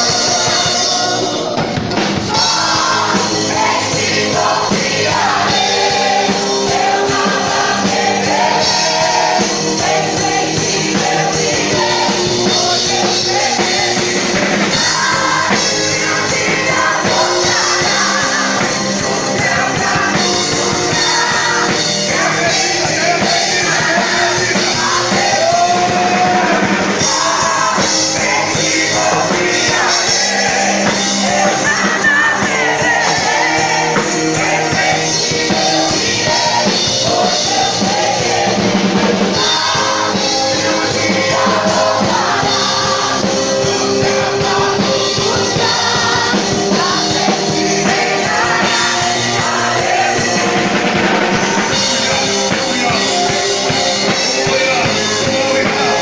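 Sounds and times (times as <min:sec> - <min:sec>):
loud rock music: 0:00.0 - 0:56.0.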